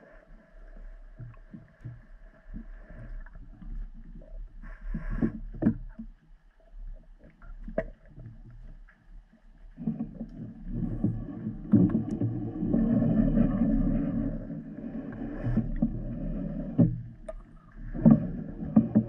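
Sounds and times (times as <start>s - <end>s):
underwater rumbling water movement: 0.0s - 19.0s.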